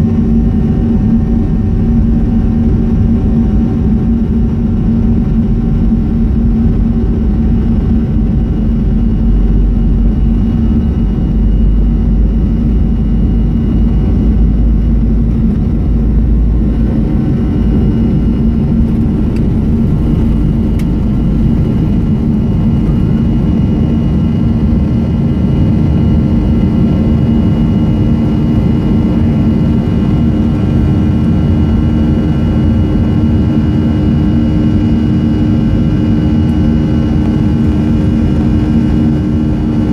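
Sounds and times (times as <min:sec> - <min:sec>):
jet engines droning: 0:00.0 - 0:39.9
wheels rumbling on runway: 0:00.0 - 0:39.9.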